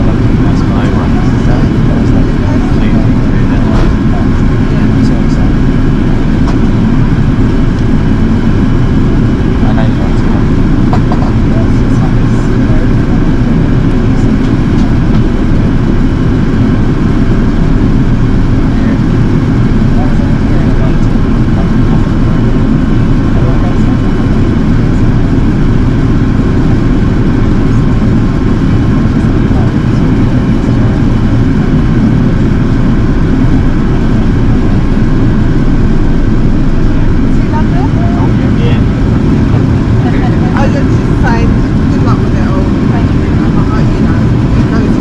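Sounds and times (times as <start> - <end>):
air rushing over fuselage: 0.0 - 45.0
airplane cabin engine rumble: 0.0 - 45.0.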